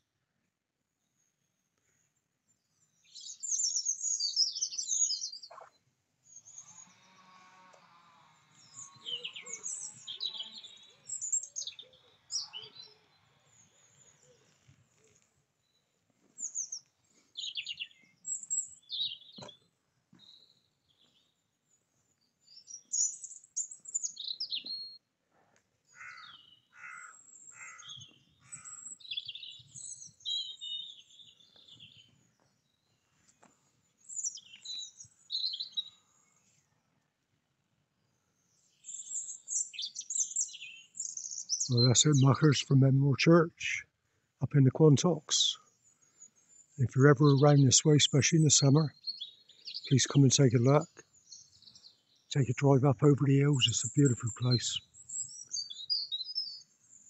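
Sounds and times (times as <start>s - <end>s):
small songbirds singing and chirping: 1.9s - 25.1s, 25.9s - 36.8s, 38.0s - 43.5s, 44.8s - 57.0s.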